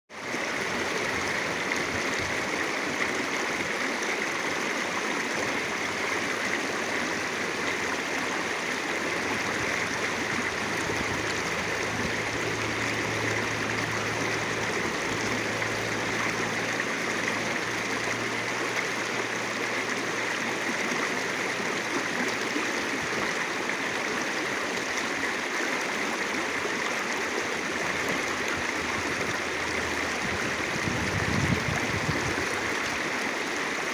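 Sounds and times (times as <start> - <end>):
stream flowing: 0.1 - 33.9.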